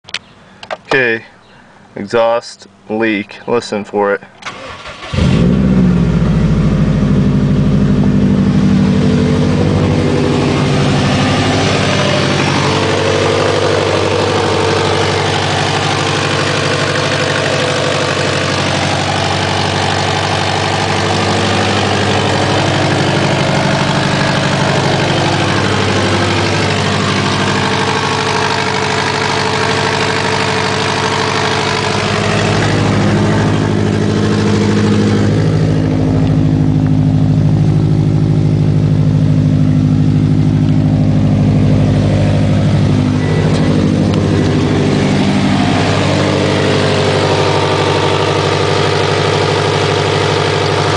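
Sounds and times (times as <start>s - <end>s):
car engine idling: 0.1s - 50.9s.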